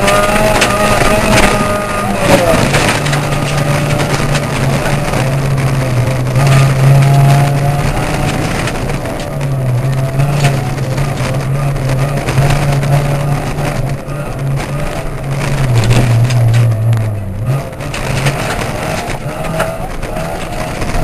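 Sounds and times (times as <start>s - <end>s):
car engine running hard: 0.0s - 21.0s
gravel road noise: 0.0s - 21.0s.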